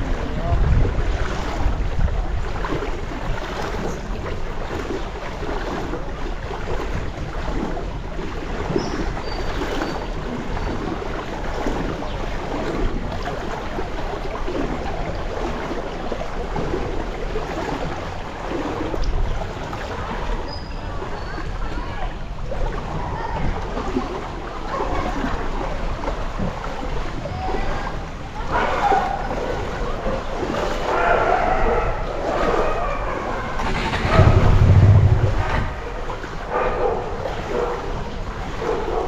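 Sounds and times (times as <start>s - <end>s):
floodwater sloshing: 0.0s - 39.0s.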